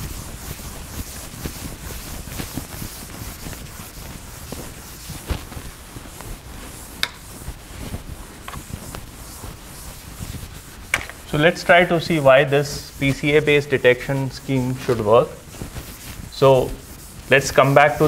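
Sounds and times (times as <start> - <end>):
eraser rubbing on blackboard: 0.0 - 18.0.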